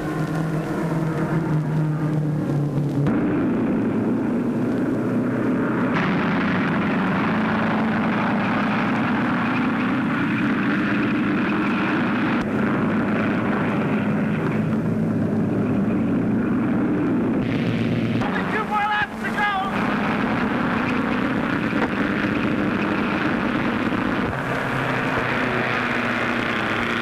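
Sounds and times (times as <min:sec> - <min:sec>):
race car engines droning: 0:00.0 - 0:27.0.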